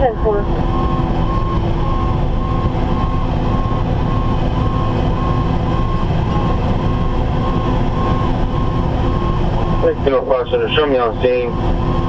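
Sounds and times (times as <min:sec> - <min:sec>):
siren yelping: 0:00.0 - 0:12.0
truck engine and road rumble: 0:00.0 - 0:12.0.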